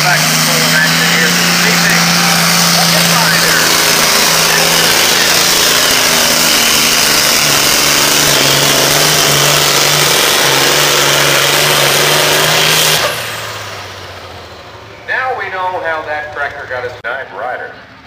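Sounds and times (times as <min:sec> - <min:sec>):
tractor diesel engine running flat out: 0:00.0 - 0:18.0.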